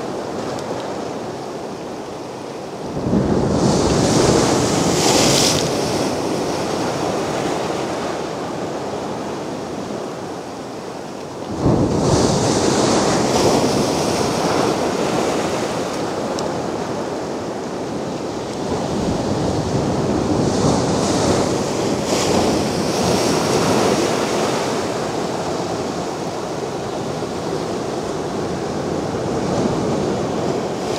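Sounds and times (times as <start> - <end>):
sea waves breaking on beach: 0.0 - 30.9.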